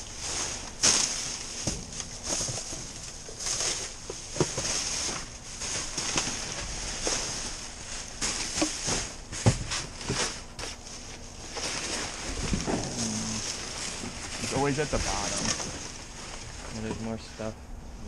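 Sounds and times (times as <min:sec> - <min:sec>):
plastic bags rustling: 0:00.0 - 0:17.5.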